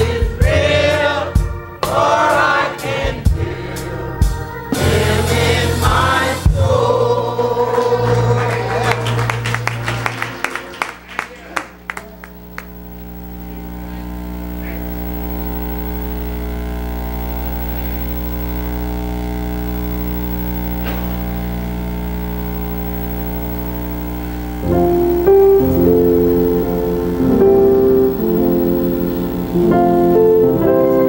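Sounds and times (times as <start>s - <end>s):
church keyboard chords: 0.0s - 31.0s.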